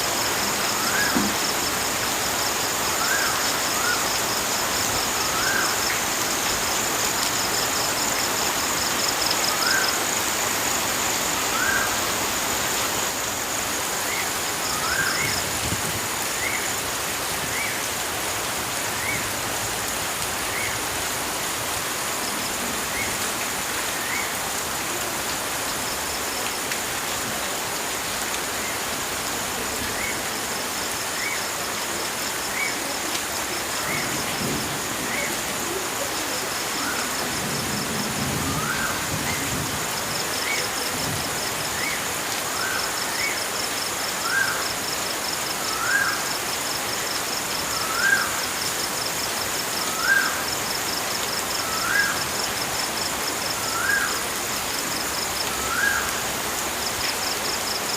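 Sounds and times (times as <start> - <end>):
flowing water: 0.0 - 57.9.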